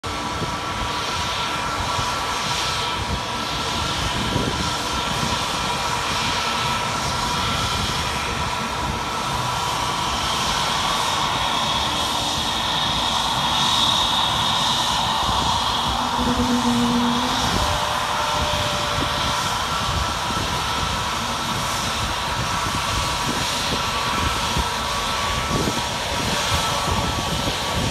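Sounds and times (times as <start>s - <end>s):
jet engines whining: 0.0s - 27.9s.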